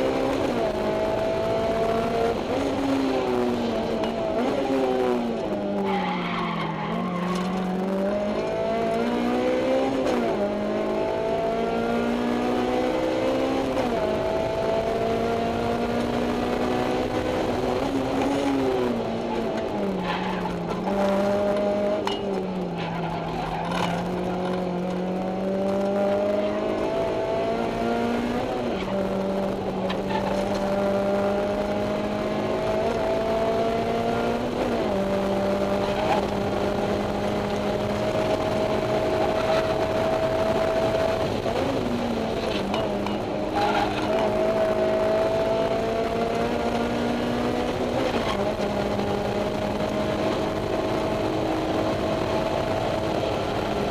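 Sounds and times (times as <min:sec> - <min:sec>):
car engine revving through gears: 0:00.0 - 0:53.9.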